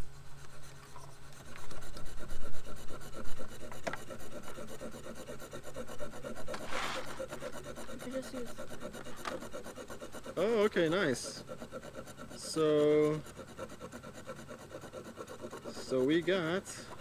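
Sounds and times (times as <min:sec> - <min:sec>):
knife scraping scratch card: 0:00.0 - 0:17.0.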